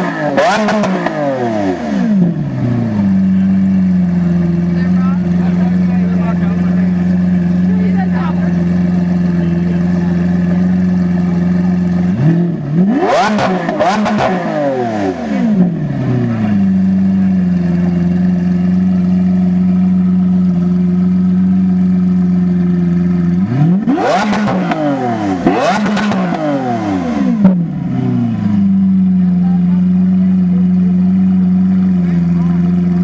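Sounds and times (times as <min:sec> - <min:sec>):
car engine idling: 0:00.0 - 0:33.0
engine revving: 0:00.0 - 0:33.0
exhaust pop: 0:02.0 - 0:29.4.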